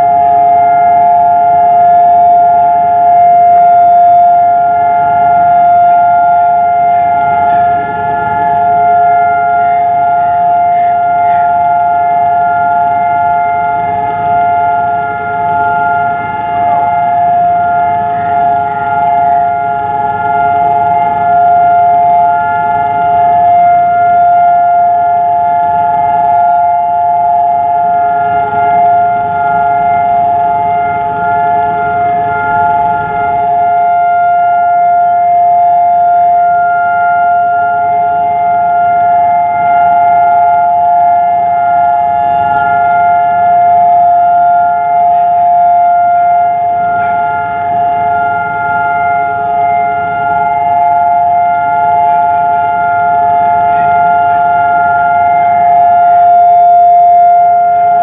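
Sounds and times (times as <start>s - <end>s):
air raid siren steady tone: 0.0s - 58.0s.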